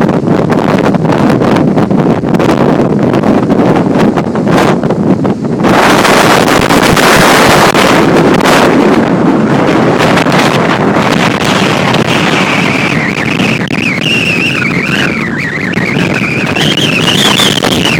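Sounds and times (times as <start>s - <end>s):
high wavering wind whistle: 0.0s - 17.9s
wind buffeting microphone: 0.0s - 17.9s.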